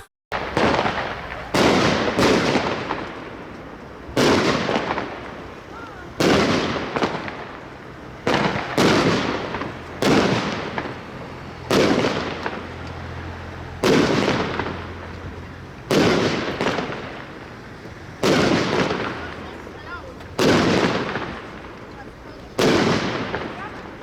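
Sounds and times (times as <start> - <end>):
firework shots bursting: 0.4 - 24.0.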